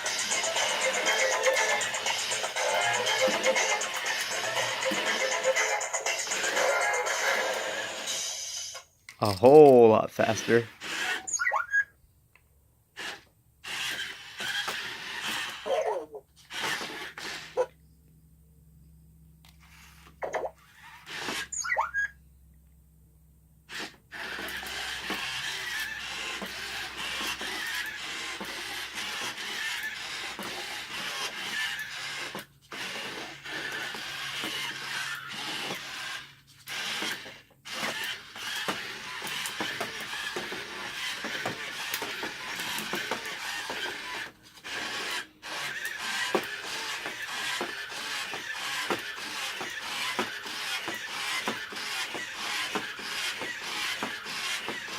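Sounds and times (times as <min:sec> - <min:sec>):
toy robot motors whirring and clicking: 0:00.0 - 0:11.8, 0:13.0 - 0:17.8, 0:19.4 - 0:22.1, 0:23.7 - 0:54.9.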